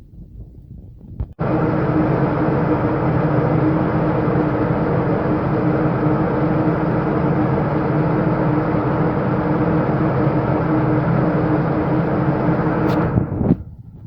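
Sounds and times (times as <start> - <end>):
ship machinery drone: 1.4 - 13.6.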